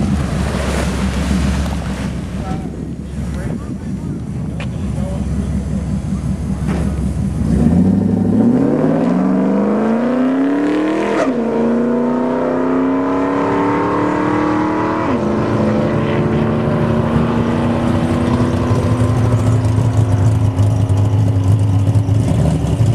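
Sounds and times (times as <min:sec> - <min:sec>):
pickup engine accelerating hard: 0:00.0 - 0:22.9.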